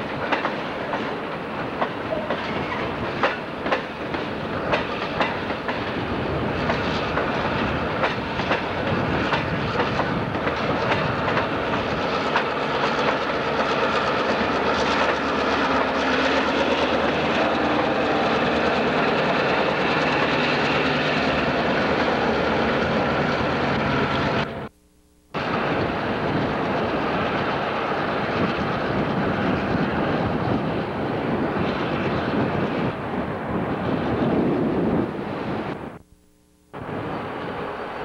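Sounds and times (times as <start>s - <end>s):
diesel locomotive engines droning: 0.0s - 24.7s, 25.4s - 36.0s, 36.8s - 38.0s.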